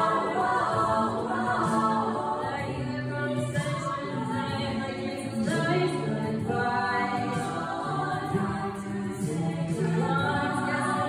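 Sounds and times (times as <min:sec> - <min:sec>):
a cappella ensemble singing chords: 0:00.0 - 0:11.0.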